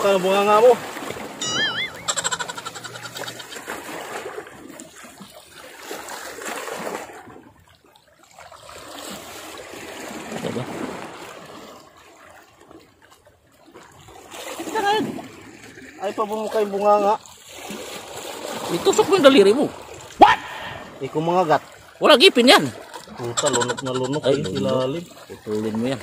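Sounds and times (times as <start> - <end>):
sea water splashing against rocks: 0.0 - 24.0, 24.8 - 26.0.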